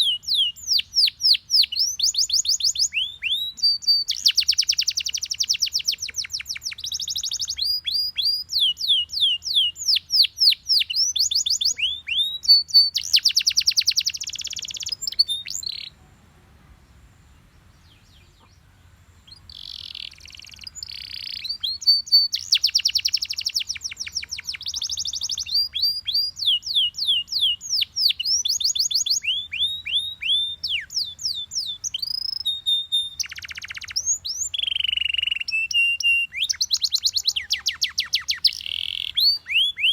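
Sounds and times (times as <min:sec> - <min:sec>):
canary singing trills: 0:00.0 - 0:16.0, 0:17.3 - 0:39.9.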